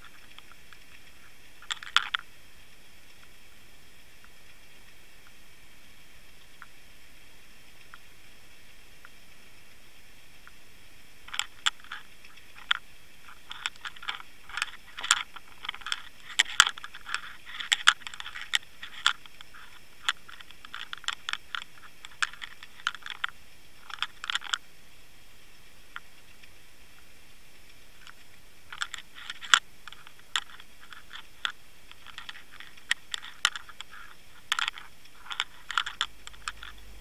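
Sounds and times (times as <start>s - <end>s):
faint steady hiss: 0.0s - 37.0s
underwater clicks and ticks: 0.0s - 37.0s.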